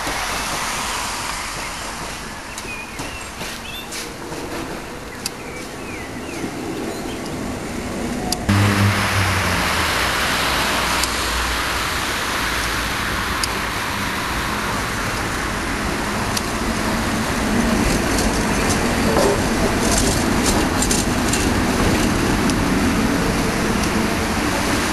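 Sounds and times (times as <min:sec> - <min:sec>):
road traffic: 0:00.0 - 0:24.9
tram wheels rolling on track: 0:00.0 - 0:24.9.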